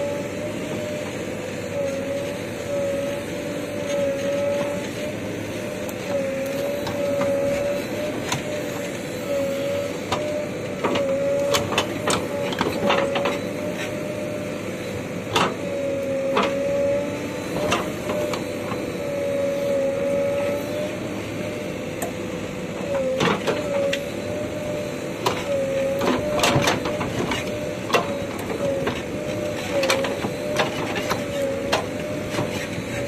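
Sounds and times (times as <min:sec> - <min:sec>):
backhoe loader whining: 0:00.0 - 0:33.0.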